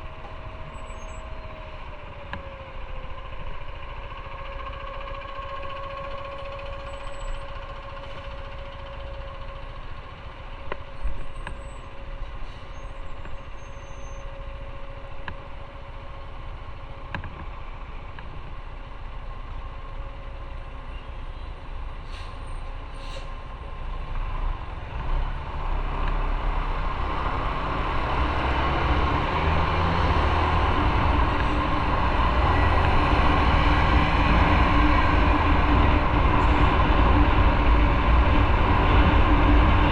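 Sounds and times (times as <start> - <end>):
heavy vehicles in traffic: 0.0 - 39.9
road noise: 0.0 - 39.9.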